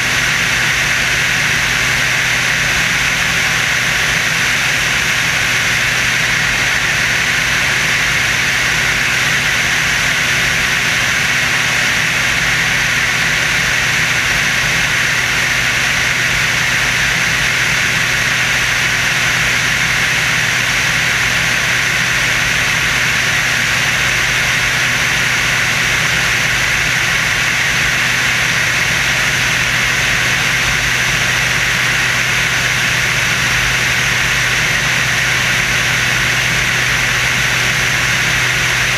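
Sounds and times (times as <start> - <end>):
airplane engine drone: 0.0 - 38.9.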